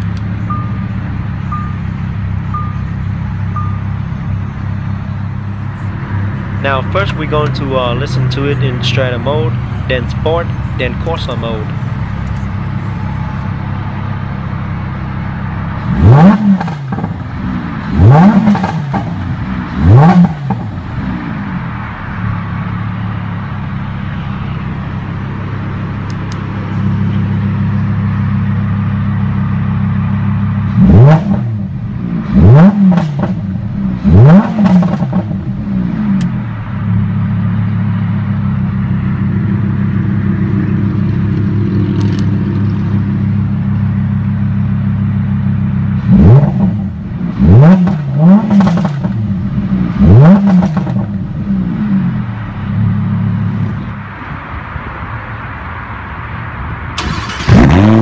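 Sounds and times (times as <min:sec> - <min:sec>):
sports car engine idling and revving: 0:00.0 - 0:58.0.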